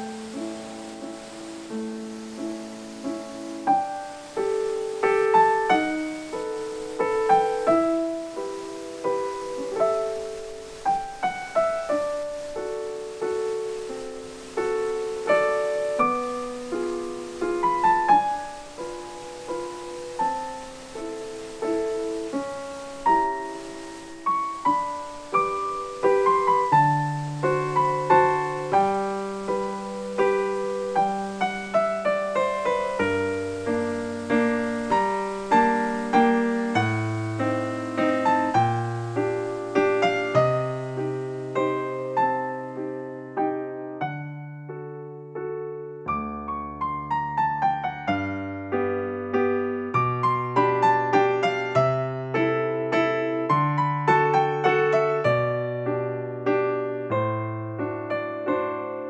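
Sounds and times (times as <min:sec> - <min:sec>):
slow solo piano melody: 0:00.0 - 0:59.0.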